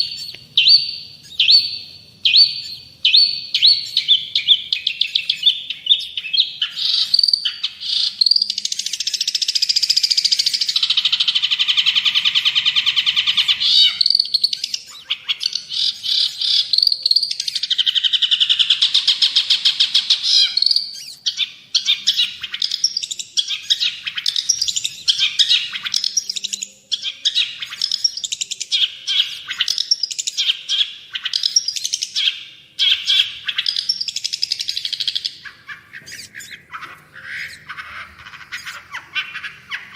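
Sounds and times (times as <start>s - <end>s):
shrike chattering song: 0.0s - 39.9s.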